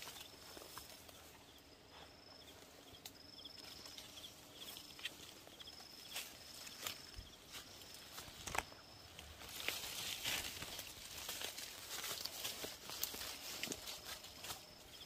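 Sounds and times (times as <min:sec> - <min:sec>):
leaves rustling and twigs snapping: 0:02.6 - 0:15.0.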